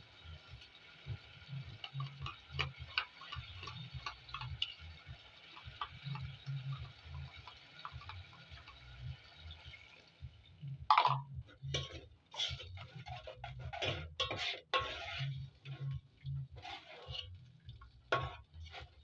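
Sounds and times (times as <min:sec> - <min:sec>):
utensil scraping and clinking a pot: 0:00.2 - 0:09.8, 0:10.9 - 0:19.0.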